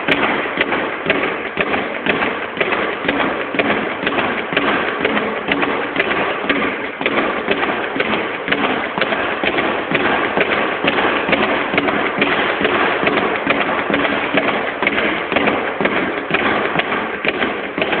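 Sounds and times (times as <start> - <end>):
speed bag being punched: 0.0 - 18.0.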